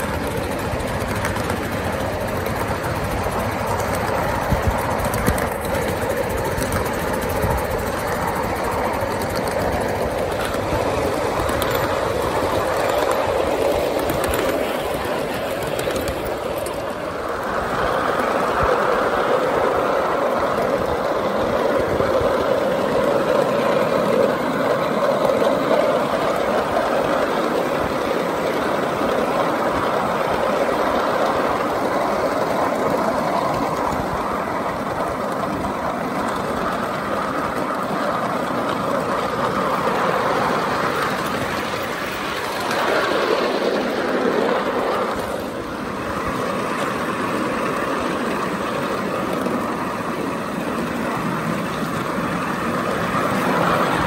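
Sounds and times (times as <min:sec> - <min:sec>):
miniature train wheels rumbling: 0:00.0 - 0:54.0.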